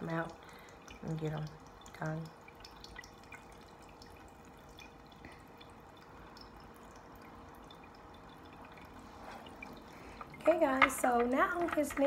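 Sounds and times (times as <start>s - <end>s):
small water drips: 0.0s - 12.0s
tabletop fountain trickling: 0.0s - 12.0s.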